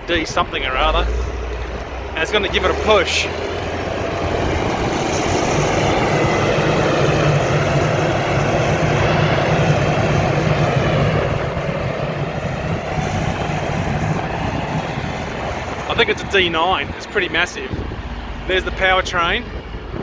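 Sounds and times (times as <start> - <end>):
heavy diesel engines humming: 0.0 - 20.0.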